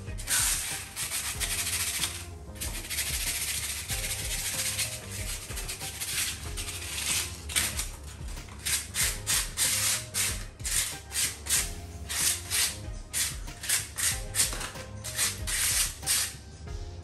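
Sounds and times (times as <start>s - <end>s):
scraper rasping on concrete: 0.0s - 16.4s.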